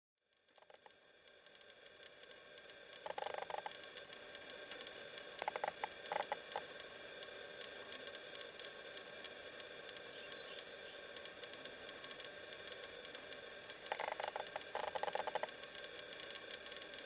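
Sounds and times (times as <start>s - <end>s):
steady hum: 0.2s - 17.0s
rapid clicking: 0.3s - 17.0s.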